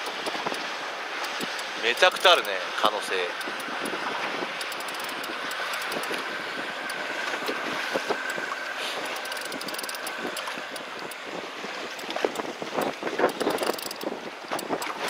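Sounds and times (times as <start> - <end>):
sea washing around boat: 0.0 - 15.0
wind buffeting microphone: 0.0 - 15.0.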